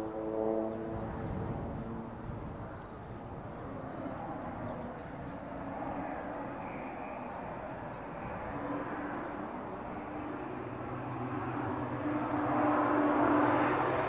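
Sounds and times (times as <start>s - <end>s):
aircraft engine and propeller drone: 0.0s - 14.0s.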